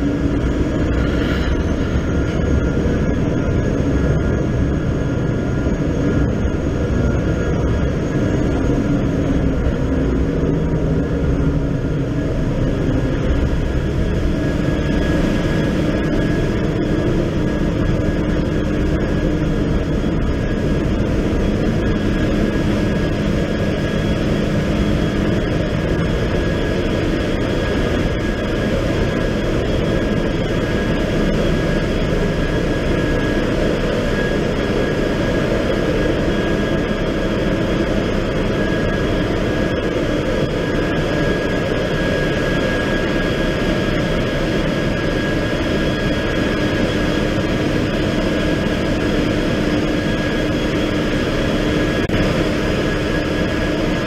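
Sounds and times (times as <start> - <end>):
high steady whine: 0.0 - 54.0
low hum: 0.0 - 54.0
ship engine room machinery: 0.0 - 54.0.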